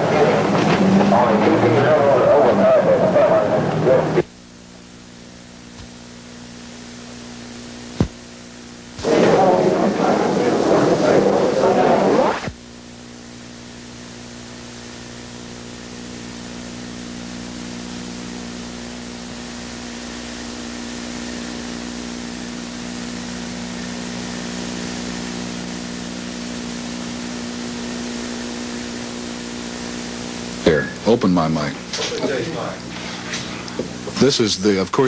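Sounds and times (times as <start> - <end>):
low electrical hum: 0.0 - 35.0
steady hiss: 1.1 - 35.0.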